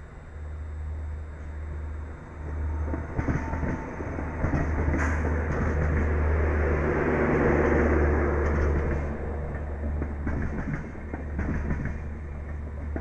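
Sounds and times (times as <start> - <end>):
train passing with low rumble: 0.0 - 13.0.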